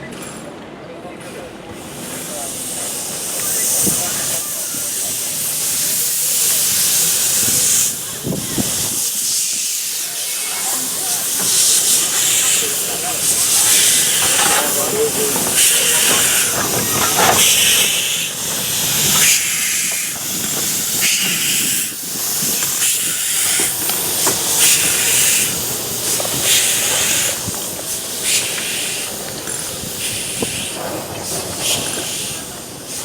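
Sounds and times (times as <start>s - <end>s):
steam locomotive hissing: 1.1s - 33.0s.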